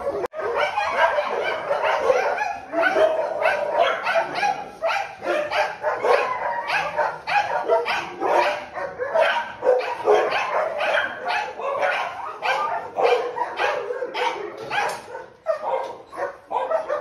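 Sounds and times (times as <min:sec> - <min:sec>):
dogs barking: 0:00.0 - 0:17.0.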